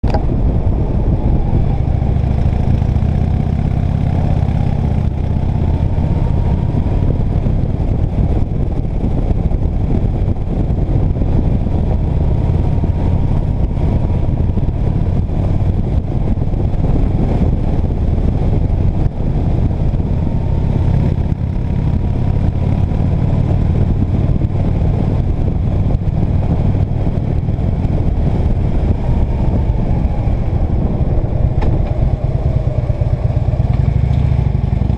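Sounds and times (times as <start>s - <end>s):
vehicle engine low rumble: 0.0s - 34.9s.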